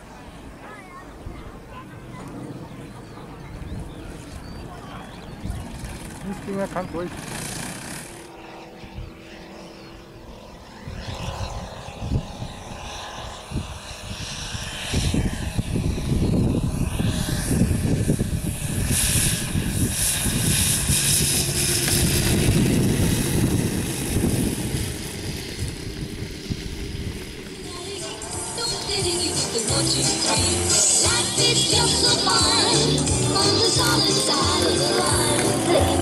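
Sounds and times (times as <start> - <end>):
model plane engine and propeller: 0.0 - 36.0.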